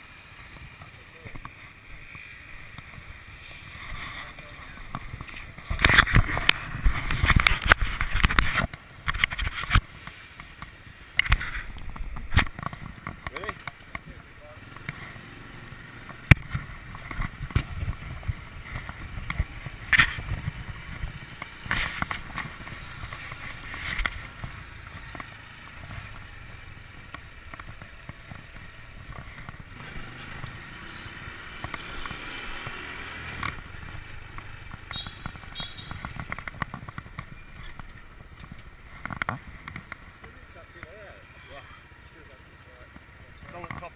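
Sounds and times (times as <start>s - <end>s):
scooter engine: 0.0s - 43.9s.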